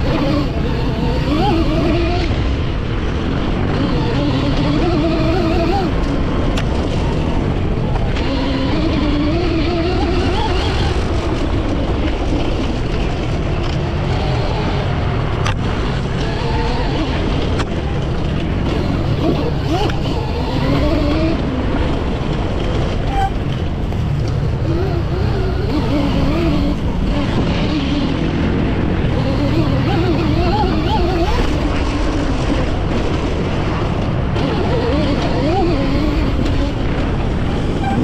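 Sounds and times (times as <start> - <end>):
electric motor whining: 0.0 - 33.1, 34.0 - 38.0
wind rush and riding noise: 0.0 - 38.0.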